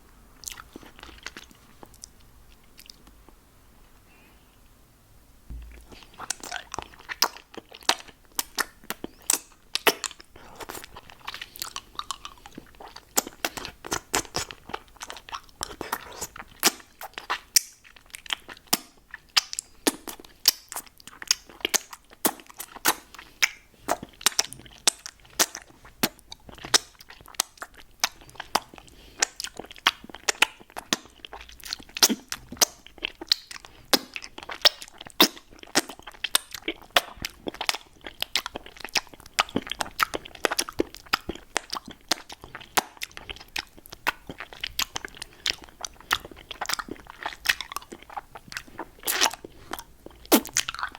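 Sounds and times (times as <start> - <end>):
mouth clicks and crunches on candy: 0.4 - 3.4, 5.6 - 50.9.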